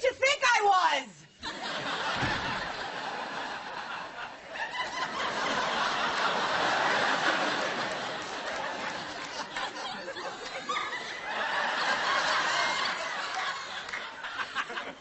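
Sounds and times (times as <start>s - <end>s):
studio audience laughing: 1.4s - 15.0s.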